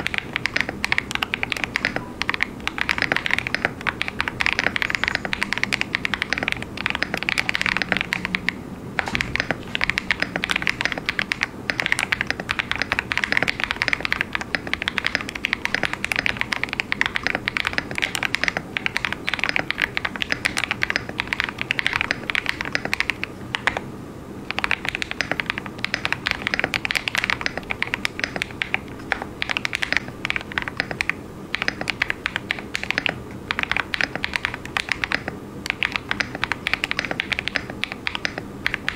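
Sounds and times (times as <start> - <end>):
mechanical keyboard typing: 0.0 - 23.9, 24.5 - 38.9.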